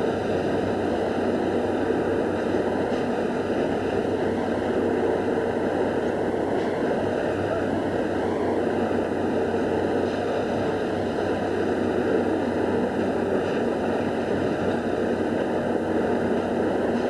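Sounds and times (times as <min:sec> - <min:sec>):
rail track machine running: 0:00.0 - 0:17.0.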